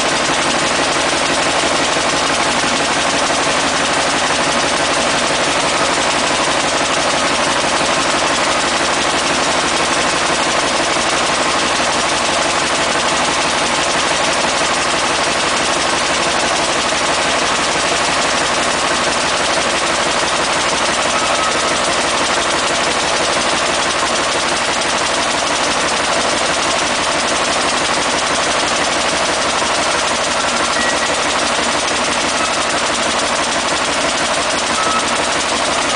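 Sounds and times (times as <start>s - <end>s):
diesel engine running steadily: 0.0s - 35.9s.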